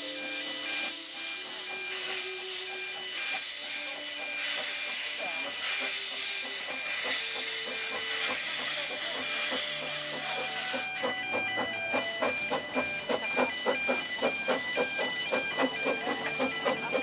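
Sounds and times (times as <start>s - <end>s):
steam hissing: 0.0s - 17.0s
steam locomotive rhythmic beat: 0.0s - 17.0s.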